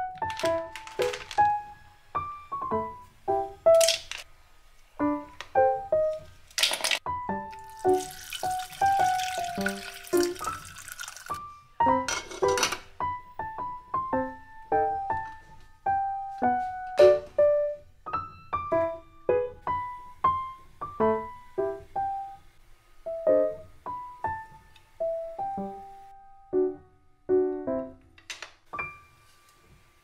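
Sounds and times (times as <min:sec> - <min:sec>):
piano melody: 0:00.0 - 0:04.3, 0:04.9 - 0:30.0.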